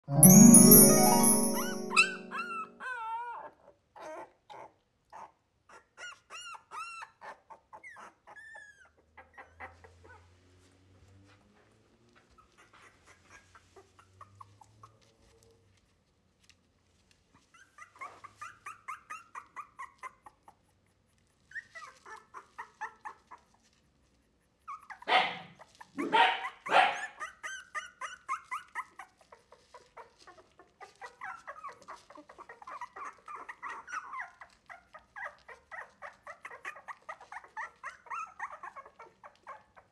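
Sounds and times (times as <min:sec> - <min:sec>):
puppies whining and squeaking: 0:00.1 - 0:10.2, 0:17.4 - 0:23.8, 0:24.4 - 0:39.9.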